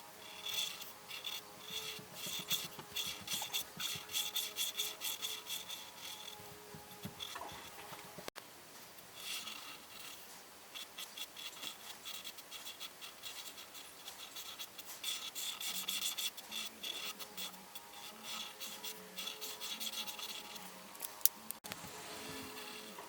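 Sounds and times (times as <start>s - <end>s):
pencil scratching on paper: 0.0s - 8.4s, 9.2s - 21.0s, 21.8s - 23.0s.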